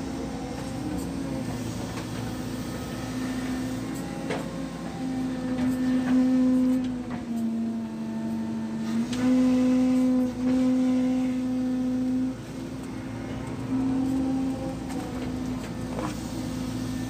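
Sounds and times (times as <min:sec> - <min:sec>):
excavator engine and hydraulics whine: 0:00.0 - 0:17.0.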